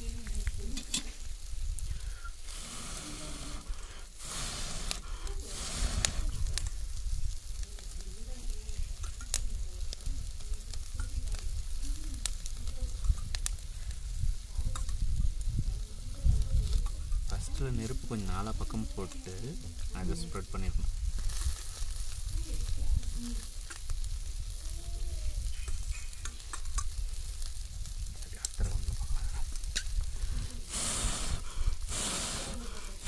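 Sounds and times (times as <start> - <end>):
chicken sizzling on charcoal grill: 0.0 - 33.0
sharp crackles and pops: 0.0 - 33.0.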